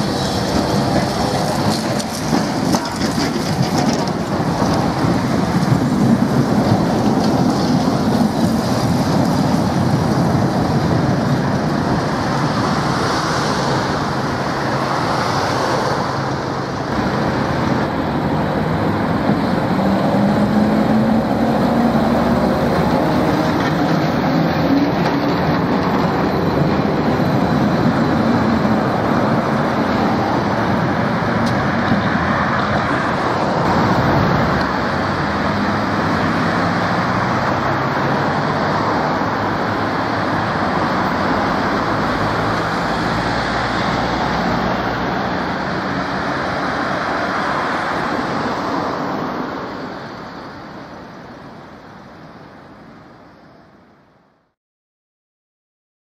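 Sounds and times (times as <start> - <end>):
tram wheels rolling on rail: 0.0 - 54.0.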